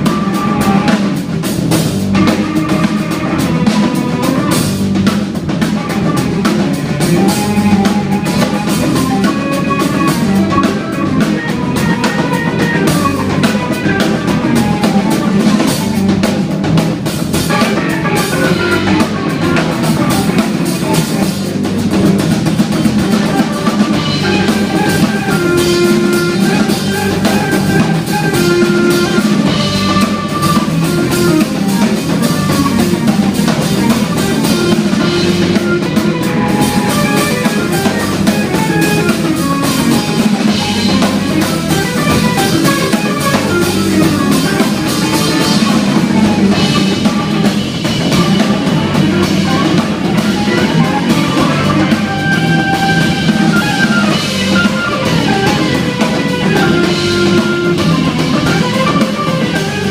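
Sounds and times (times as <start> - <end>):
busy drum kit: 0.0 - 59.9
jazz-rock band playing: 0.0 - 59.9.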